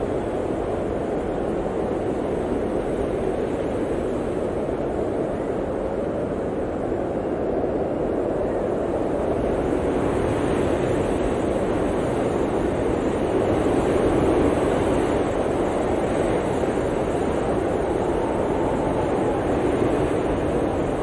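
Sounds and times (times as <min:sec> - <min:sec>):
blizzard wind blowing: 0:00.0 - 0:21.0.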